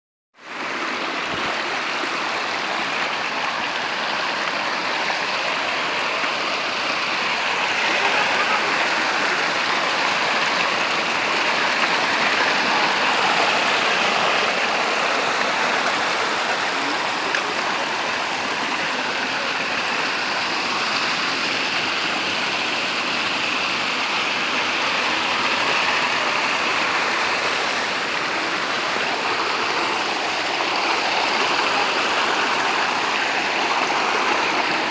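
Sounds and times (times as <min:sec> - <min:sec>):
running water rushing: 0:00.4 - 0:34.9.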